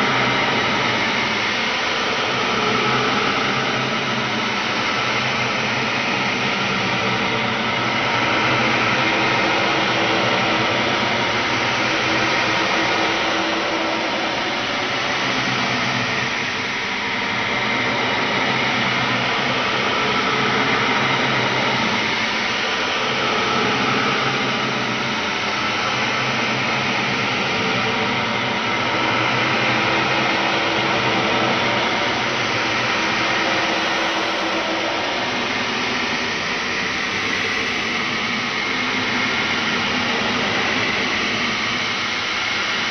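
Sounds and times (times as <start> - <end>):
dense rushing hiss drone: 0.0 - 42.9.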